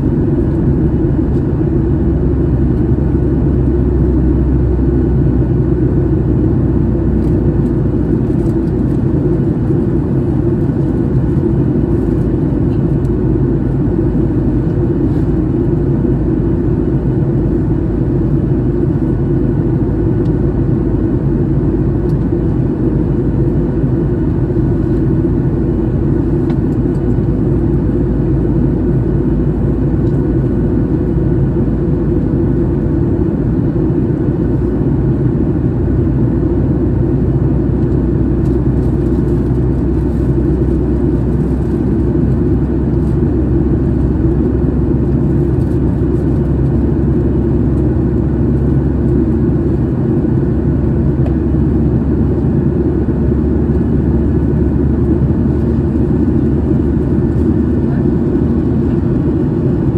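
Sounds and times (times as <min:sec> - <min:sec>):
jet engine low rumble: 0:00.0 - 0:59.9.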